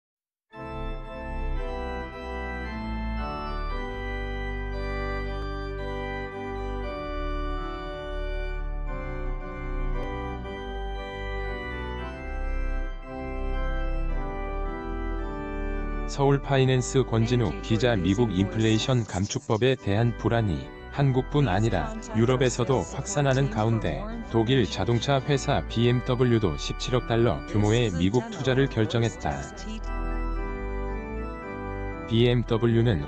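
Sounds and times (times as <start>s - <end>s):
instrumental chord music: 0.5s - 33.0s.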